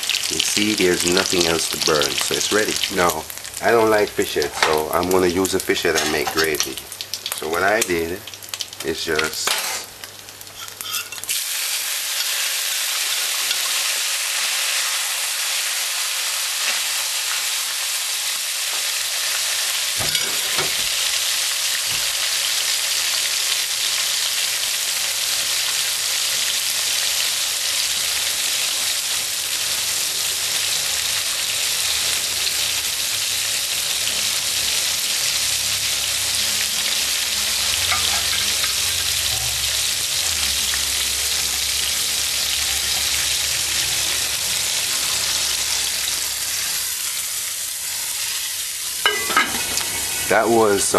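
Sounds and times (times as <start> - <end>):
food frying in hot oil: 0.0 - 50.9.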